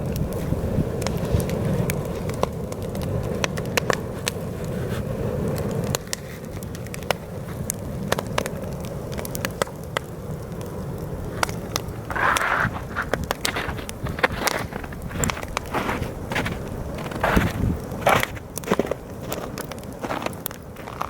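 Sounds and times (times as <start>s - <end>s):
campfire crackling with pops: 0.0s - 21.0s
wind buffeting microphone: 0.0s - 21.0s.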